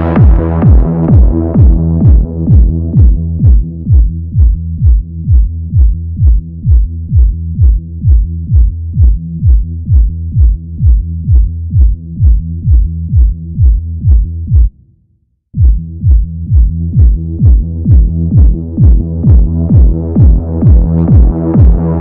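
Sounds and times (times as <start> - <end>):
kick drum beat: 0.0 - 14.8, 15.6 - 22.0
muffled pumping synth: 0.0 - 14.8, 15.5 - 22.0.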